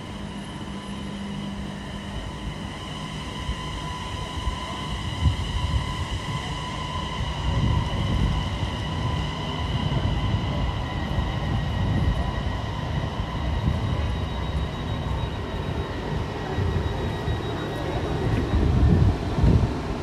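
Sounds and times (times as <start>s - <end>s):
train high-pitched whine: 0.0s - 20.0s.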